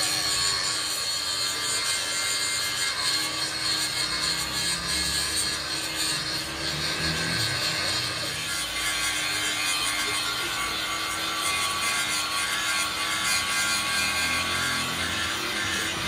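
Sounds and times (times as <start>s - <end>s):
angle grinder grinding steel: 0.0s - 16.0s.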